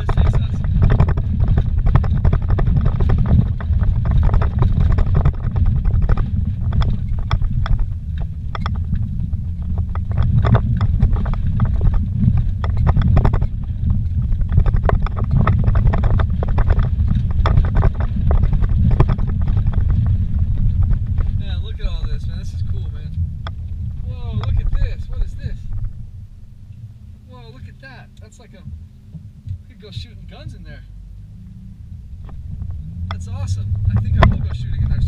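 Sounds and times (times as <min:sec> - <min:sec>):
knocks and rattles: 0:00.0 - 0:26.1, 0:32.2 - 0:35.0
vehicle rumbling on rocky road: 0:00.0 - 0:35.0.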